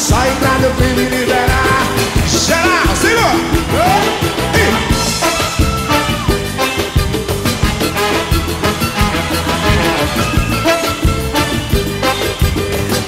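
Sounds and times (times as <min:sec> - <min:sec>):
samba band song: 0:00.0 - 0:13.0.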